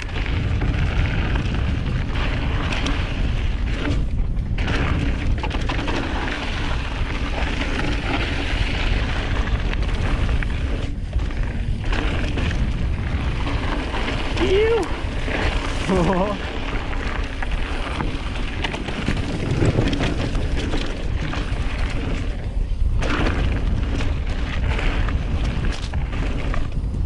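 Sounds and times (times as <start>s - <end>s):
bike tyre and frame rattle: 0.0s - 27.0s
wind buffeting microphone: 0.0s - 27.0s.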